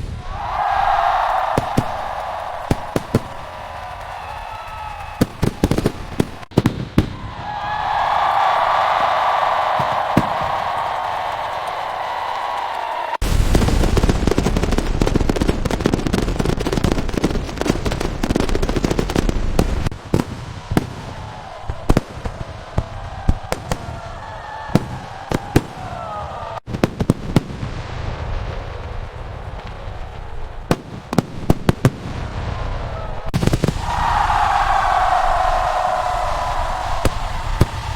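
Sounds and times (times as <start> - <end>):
fireworks bangs and crackles: 0.0 - 37.9
fireworks deep booms: 0.0 - 37.9.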